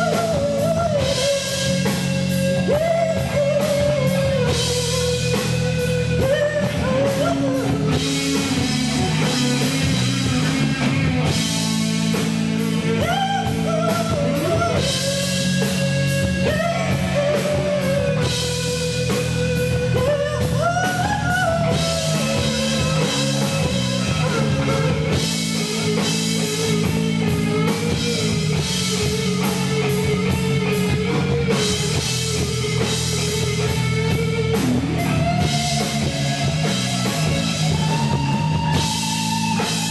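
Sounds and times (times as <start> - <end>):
bass: 0.0 - 39.9
drum kit: 0.0 - 39.9
electric guitar lead melody: 0.0 - 39.9.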